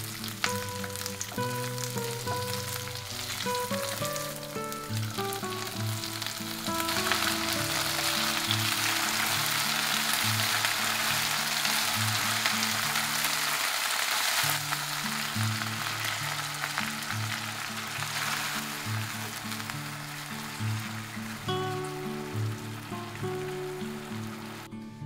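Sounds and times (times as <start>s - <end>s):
sauce pouring: 0.0s - 24.7s
vegetables sizzling in oil: 0.0s - 24.7s.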